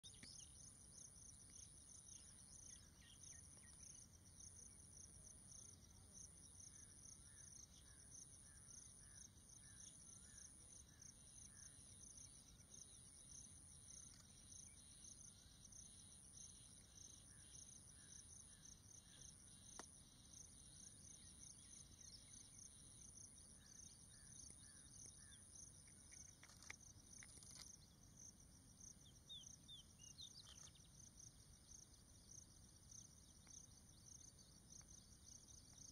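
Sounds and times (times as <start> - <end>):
insects trilling: 0.0 - 35.9
soft cricket chirps: 0.0 - 35.9.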